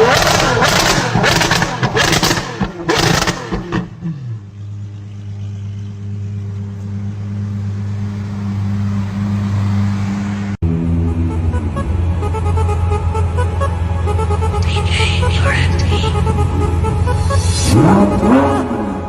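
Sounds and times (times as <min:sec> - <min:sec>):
car exhaust revving with crackles: 0:00.0 - 0:11.8, 0:15.5 - 0:19.0.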